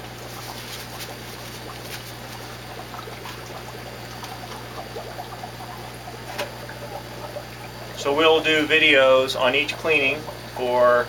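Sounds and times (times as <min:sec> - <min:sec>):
air bubbles rising: 0:00.0 - 0:11.0
steady low hum: 0:00.0 - 0:11.0
water trickling and splashing: 0:00.0 - 0:11.0.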